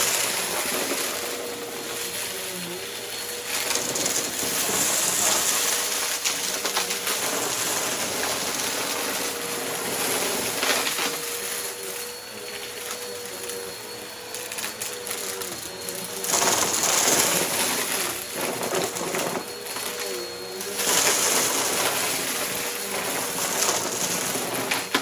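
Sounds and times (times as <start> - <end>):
vacuum cleaner motor hum: 0.0 - 25.0.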